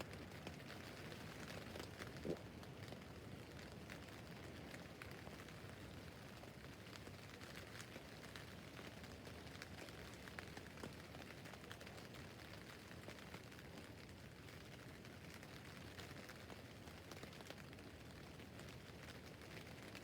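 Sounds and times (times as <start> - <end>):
rain drops on tent fabric: 0.0 - 20.0.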